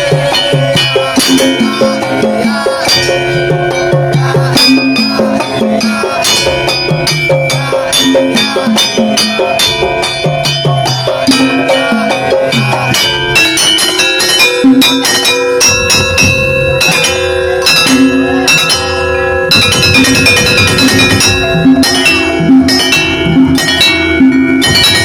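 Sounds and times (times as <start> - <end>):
pitched percussion melody: 0.0 - 25.0
rapid drum strokes: 0.0 - 25.0.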